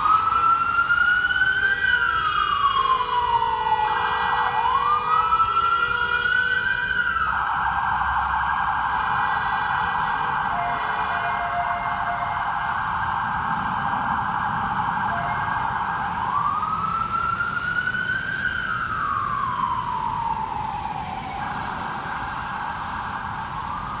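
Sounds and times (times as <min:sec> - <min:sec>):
city traffic noise: 0:00.0 - 0:24.0
electronic siren yelp and wail: 0:00.0 - 0:24.0.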